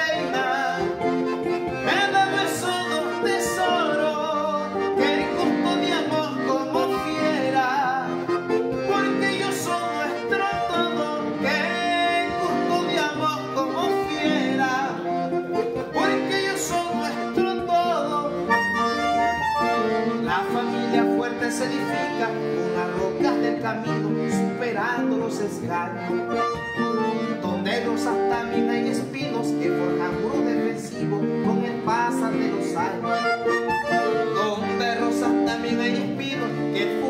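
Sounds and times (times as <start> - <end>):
accordion: 0.0 - 37.0
acoustic guitar: 0.0 - 37.0
man singing: 0.0 - 37.0.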